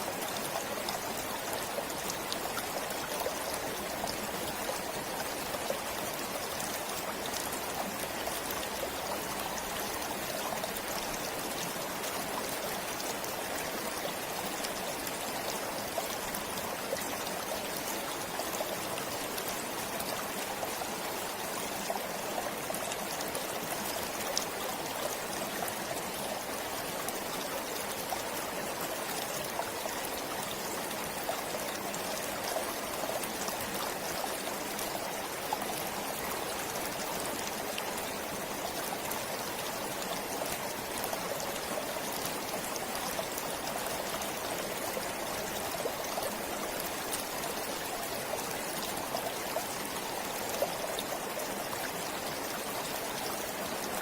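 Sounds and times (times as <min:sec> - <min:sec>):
stream flowing and trickling: 0:00.0 - 0:54.0.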